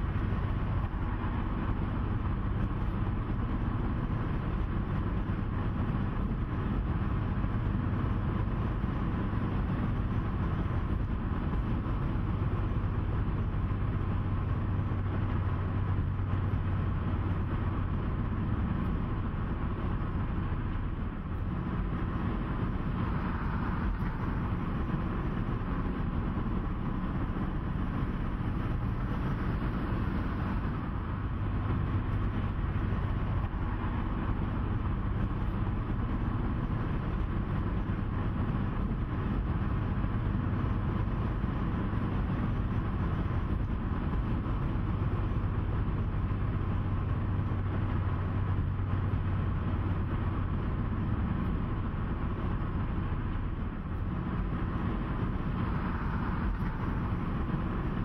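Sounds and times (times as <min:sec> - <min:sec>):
low engine drone: 0:00.0 - 0:58.0
road noise: 0:00.0 - 0:58.0.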